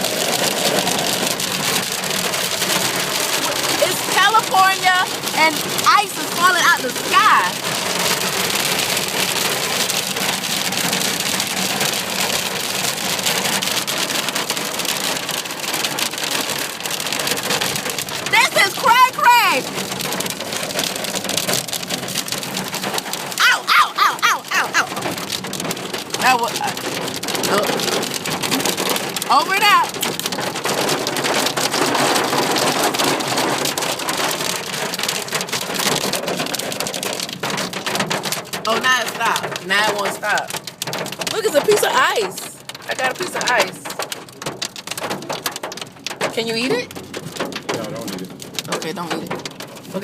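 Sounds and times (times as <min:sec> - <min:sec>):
hail pelting a car: 0:00.0 - 0:50.0.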